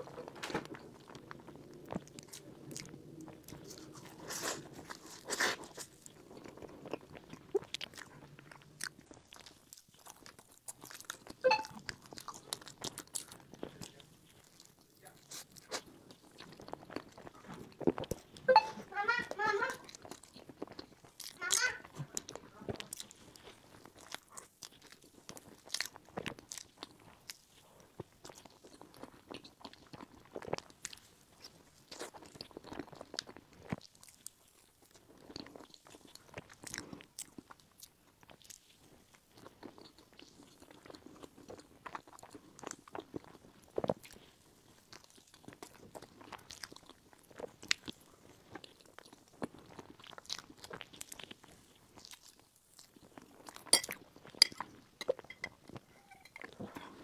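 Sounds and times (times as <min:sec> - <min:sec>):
person chewing cake: 0:00.0 - 0:57.0.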